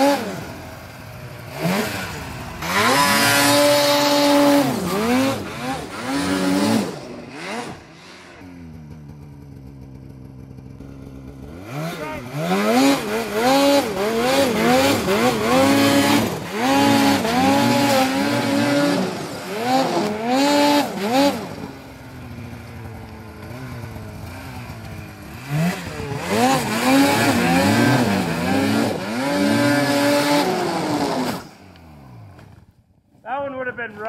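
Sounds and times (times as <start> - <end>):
snowmobile engine revving: 0.0 - 32.7.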